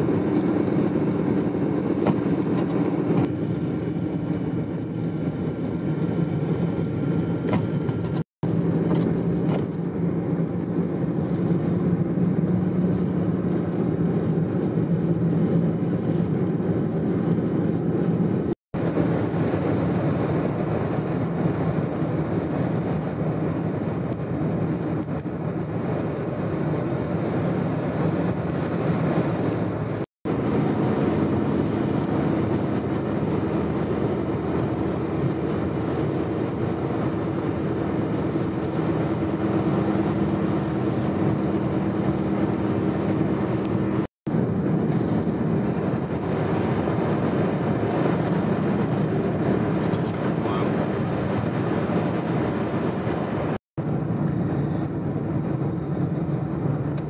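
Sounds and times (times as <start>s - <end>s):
engine hum: 0.0s - 57.0s
rushing wind: 0.0s - 57.0s
vehicle road noise: 0.0s - 57.0s.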